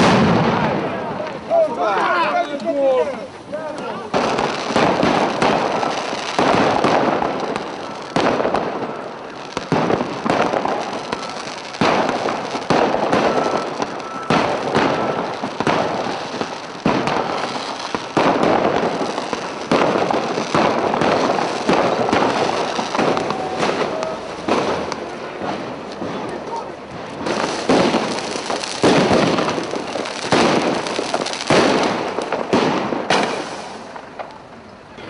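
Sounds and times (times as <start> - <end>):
firecrackers banging: 0.0 - 35.0.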